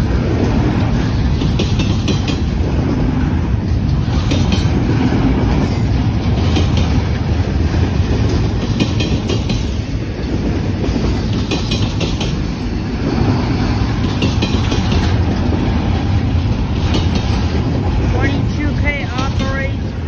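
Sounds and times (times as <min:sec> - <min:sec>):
freight cars clicking and clanking: 0:00.0 - 0:20.0
steel wheels rumbling on rail: 0:00.0 - 0:20.0.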